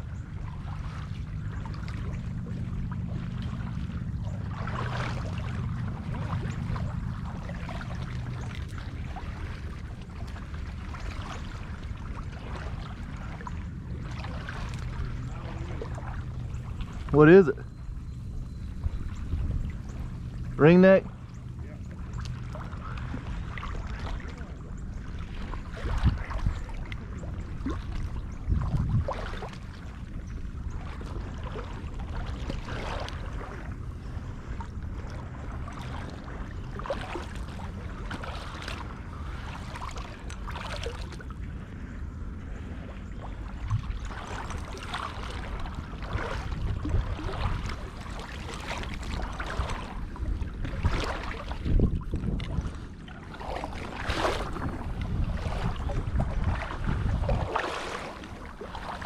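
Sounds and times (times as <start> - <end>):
steady low hum: 0.0 - 59.0
water sloshing and splashing: 0.0 - 59.0.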